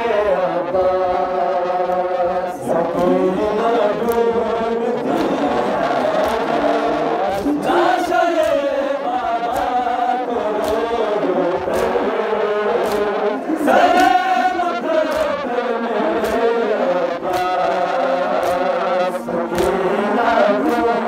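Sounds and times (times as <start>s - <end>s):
group chanting in unison: 0.0s - 21.0s
rhythmic chest slaps: 0.0s - 21.0s.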